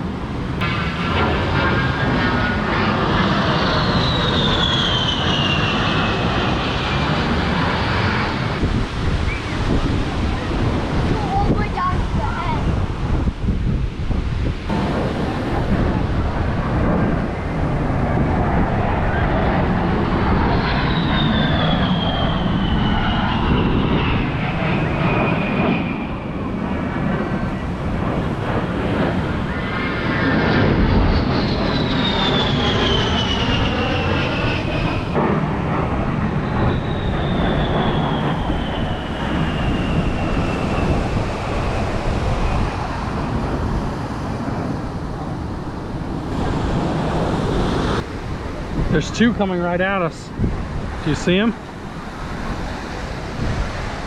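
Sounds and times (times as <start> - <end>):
jets flying past low: 0.0 - 54.0
wind: 0.0 - 54.0.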